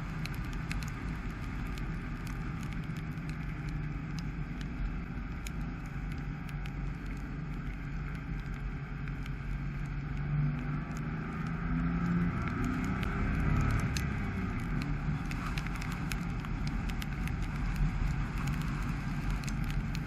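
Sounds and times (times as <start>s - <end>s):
car engine hum: 0.0s - 20.0s
sharp ticks: 0.0s - 20.0s.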